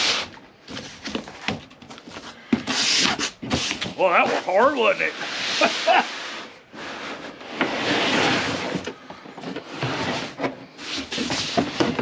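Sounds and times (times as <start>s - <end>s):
plastic sliding against cardboard: 0.0s - 12.0s.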